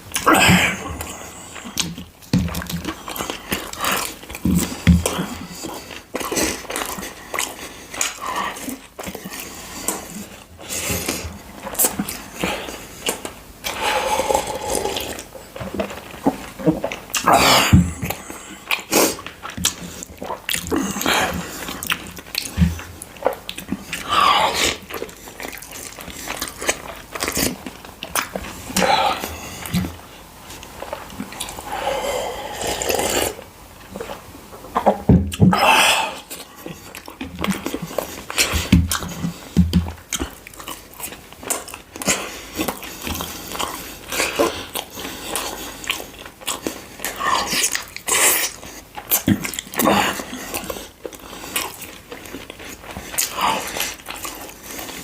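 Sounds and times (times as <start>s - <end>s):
chewing and mouth smacking: 1.0s - 55.0s.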